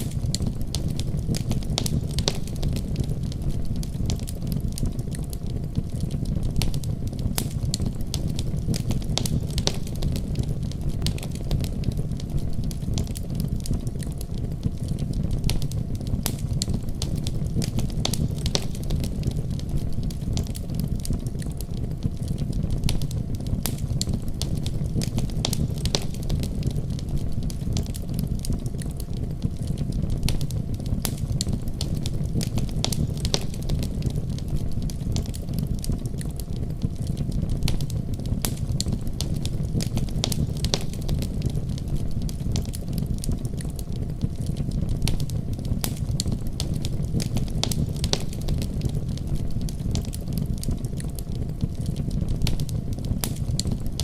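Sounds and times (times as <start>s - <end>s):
low rumble of flames: 0.0s - 54.0s
wood fire popping and crackling: 0.0s - 54.0s.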